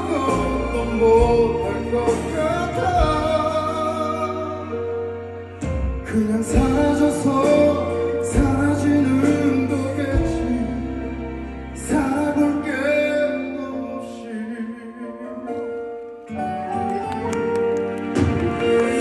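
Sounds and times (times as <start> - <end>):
male singer: 0.0 - 16.1
live pop ballad band: 0.0 - 19.0.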